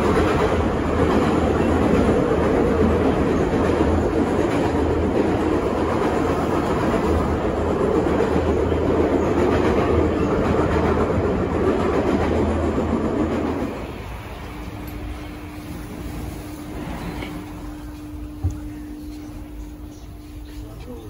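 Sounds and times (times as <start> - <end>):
subway wheels on rails: 0.0 - 21.0.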